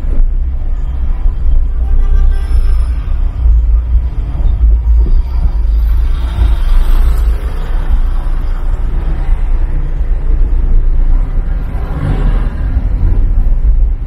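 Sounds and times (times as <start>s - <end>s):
car engine: 0.0s - 14.0s
road noise: 0.0s - 14.0s.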